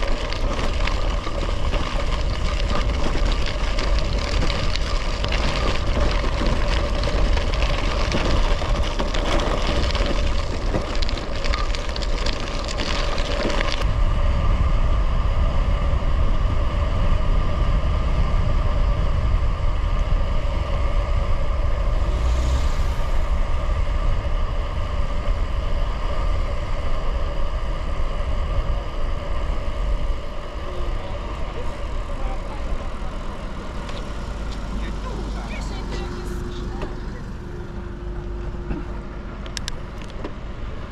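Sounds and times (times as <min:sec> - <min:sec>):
wind rumbling on microphone: 0:00.0 - 0:35.4
tyre and road noise: 0:00.0 - 0:40.9.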